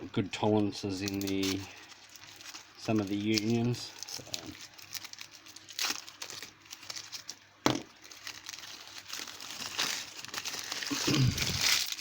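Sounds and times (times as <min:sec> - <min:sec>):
packaging crinkling: 0:00.8 - 0:12.0.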